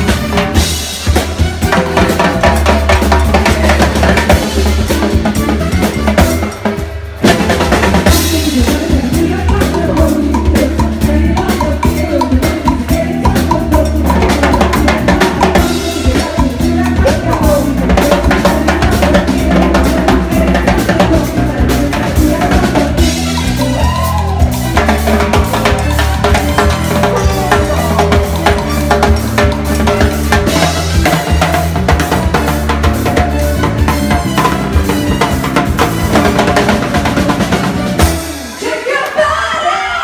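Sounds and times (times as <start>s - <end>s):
drum played with sticks: 0.0s - 38.9s
live band music: 0.0s - 40.0s.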